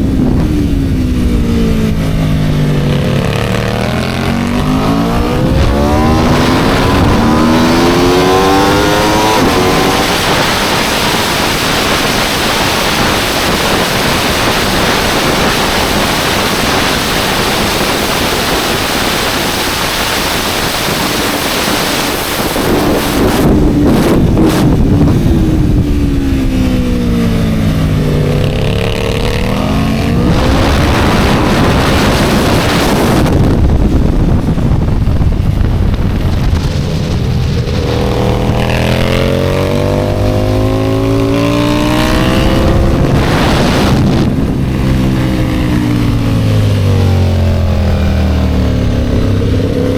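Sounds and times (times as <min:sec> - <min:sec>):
motorcycle engine at high revs: 0:00.0 - 0:49.9
wind rush: 0:00.0 - 0:49.9.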